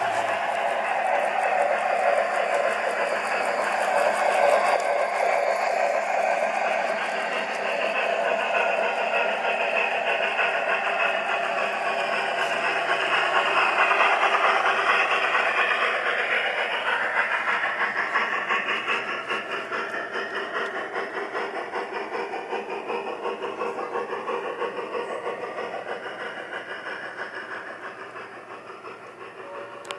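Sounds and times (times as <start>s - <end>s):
model steam locomotive running: 0.0s - 29.9s.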